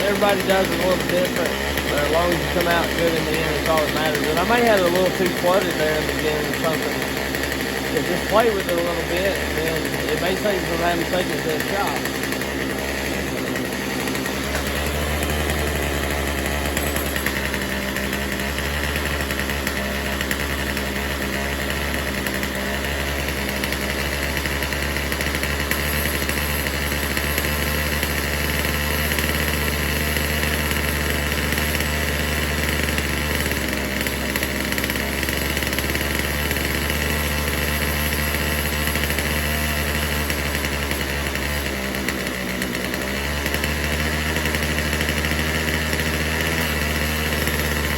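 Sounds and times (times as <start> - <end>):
chainsaw engine idling: 0.0 - 47.9.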